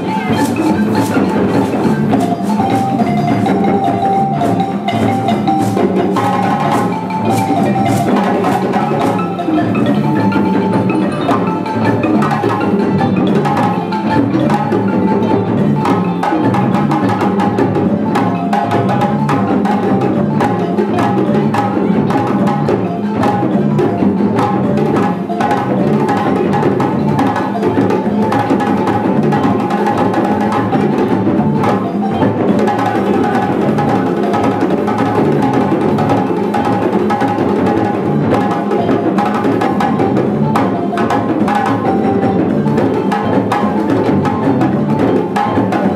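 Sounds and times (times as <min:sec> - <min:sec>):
balafon melody: 0:00.0 - 0:45.9
djembe drumming: 0:00.0 - 0:45.9.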